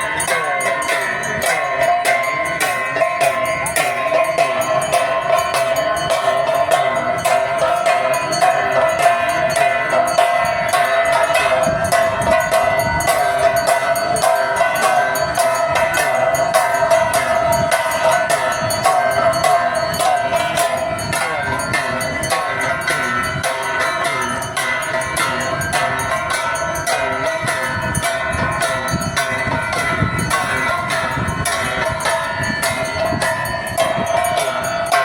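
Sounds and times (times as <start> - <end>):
bells clanging rapidly: 0.0 - 35.0.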